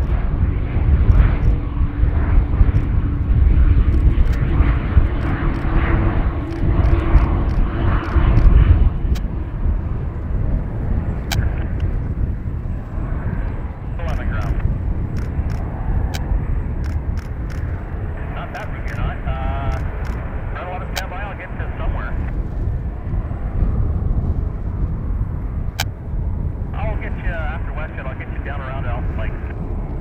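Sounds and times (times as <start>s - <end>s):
airliner engines rumbling: 0.0s - 30.0s
steady engine hum: 0.0s - 30.0s.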